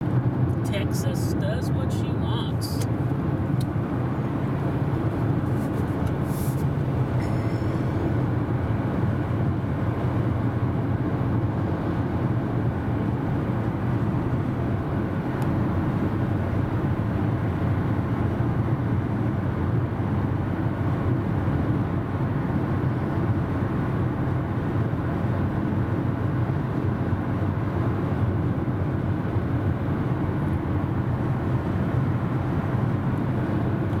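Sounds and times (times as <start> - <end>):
car road and tyre noise: 0.0 - 34.0.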